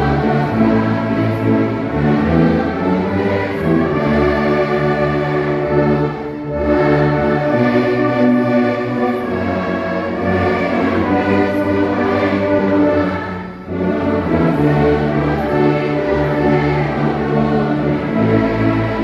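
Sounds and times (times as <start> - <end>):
brass orchestra playing a slow hymn: 0.0 - 19.0.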